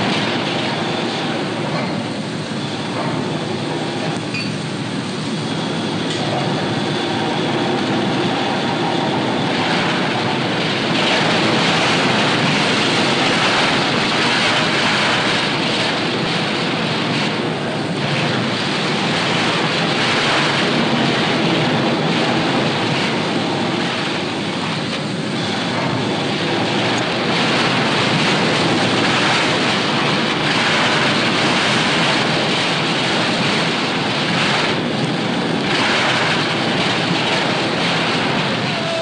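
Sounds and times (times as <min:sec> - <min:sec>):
loud steady rushing noise: 0:00.0 - 0:39.0.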